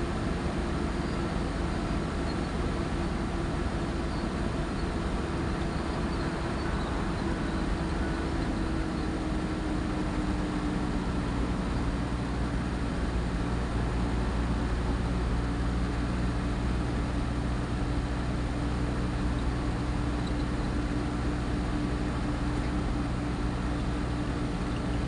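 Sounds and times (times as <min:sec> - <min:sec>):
truck engine hum: 0:00.0 - 0:25.0
tyre and road noise: 0:00.0 - 0:25.0.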